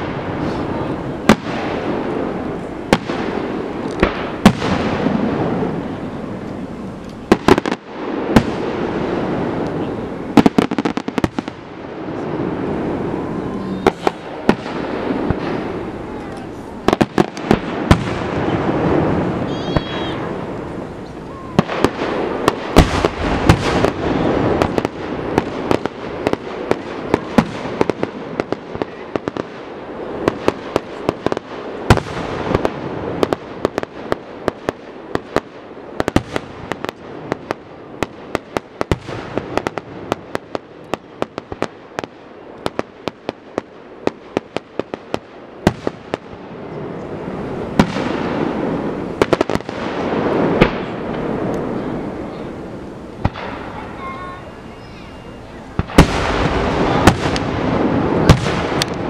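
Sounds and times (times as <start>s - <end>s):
fireworks booming: 0.0s - 59.0s
fireworks crackling pops: 0.0s - 59.0s.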